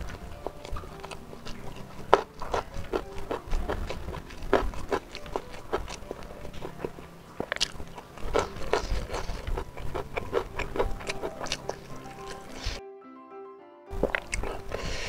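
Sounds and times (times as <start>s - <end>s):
fingers squishing rice: 0.0s - 12.8s
person chewing: 0.0s - 12.8s, 13.9s - 15.0s.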